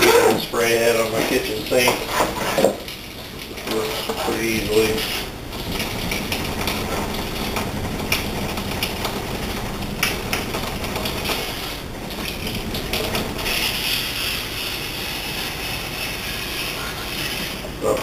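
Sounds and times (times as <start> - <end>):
steady hum: 0.0 - 18.0
water spraying from sink sprayer: 0.0 - 18.0.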